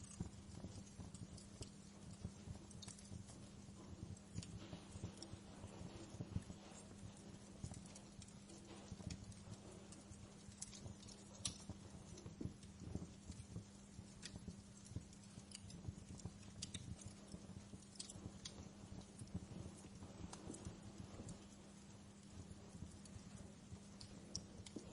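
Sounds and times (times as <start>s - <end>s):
faint low hum: 0.0s - 24.9s
fire low rumble: 0.0s - 24.9s
wood fire pops and snaps: 0.0s - 24.9s.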